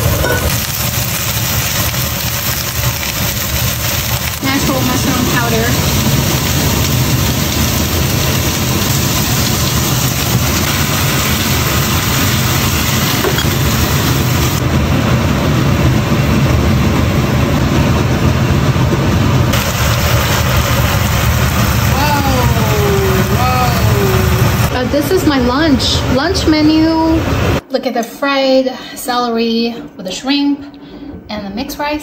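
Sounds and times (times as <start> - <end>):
exhaust fan humming: 0.0 - 27.7.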